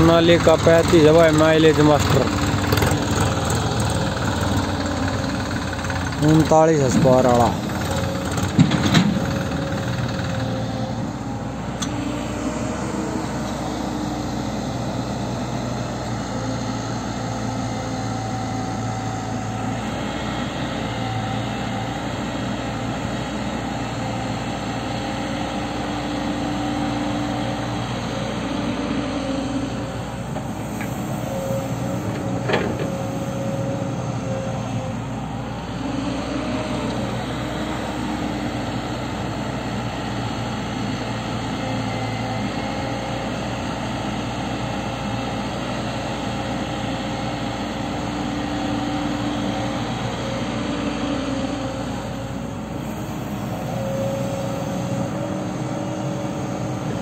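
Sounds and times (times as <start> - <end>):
tractor diesel engine idling: 0.0 - 41.8, 42.4 - 57.0
excavator engine and hydraulics: 0.0 - 57.0.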